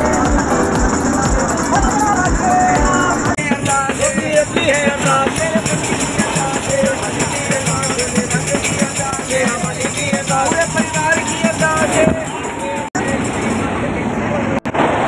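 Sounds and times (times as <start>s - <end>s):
frame drum beating: 0.0s - 12.3s
men singing together: 0.0s - 12.3s
tambourine jingling: 0.0s - 13.8s.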